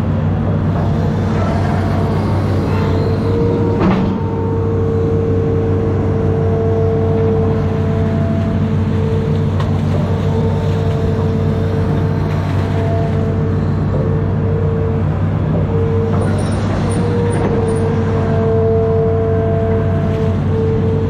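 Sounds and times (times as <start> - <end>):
diesel engine running under load: 0.0 - 21.0
hydraulic whine: 0.0 - 21.0.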